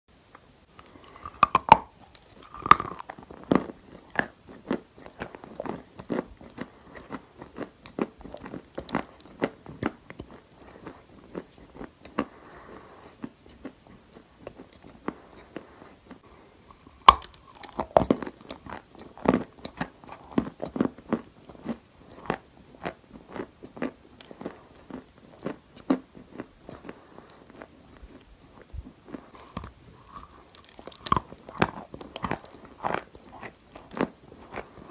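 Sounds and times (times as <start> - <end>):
clay crunching as it is chewed: 0.3 - 34.9.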